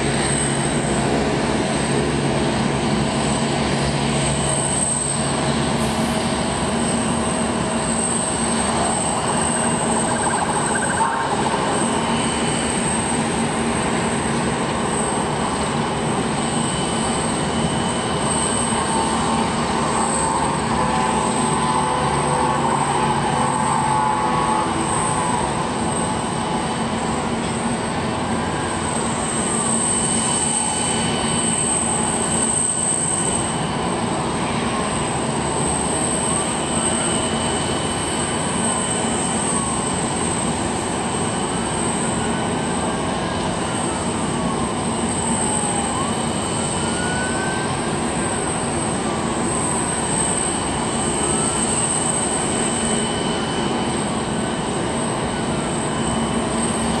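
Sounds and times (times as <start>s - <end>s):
jet engine rushing: 0.0s - 57.0s.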